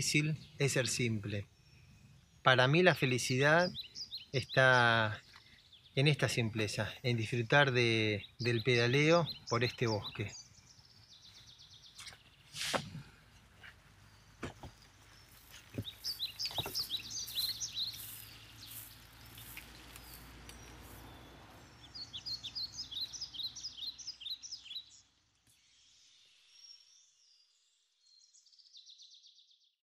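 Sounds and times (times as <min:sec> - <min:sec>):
songbirds chirping: 0:00.0 - 0:29.8.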